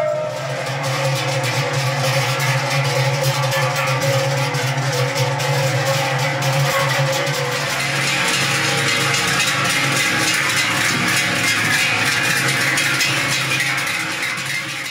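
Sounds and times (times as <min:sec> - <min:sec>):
cowbells clanging: 0:00.0 - 0:14.9.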